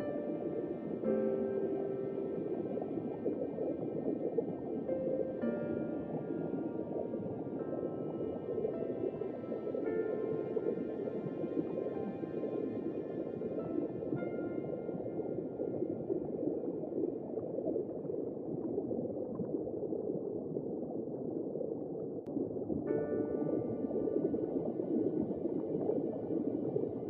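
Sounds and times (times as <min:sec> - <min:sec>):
ambient music: 0:00.0 - 0:17.0, 0:22.3 - 0:27.0
water bubbling and gurgling: 0:00.0 - 0:27.0.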